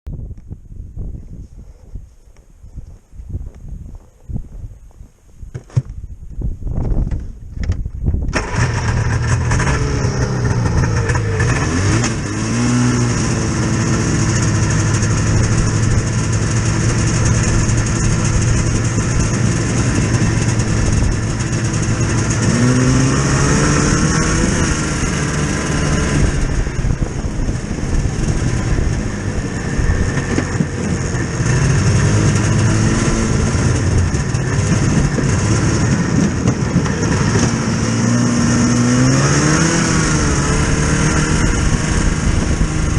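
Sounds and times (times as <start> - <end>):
vehicle engine accelerating: 8.3 - 42.9.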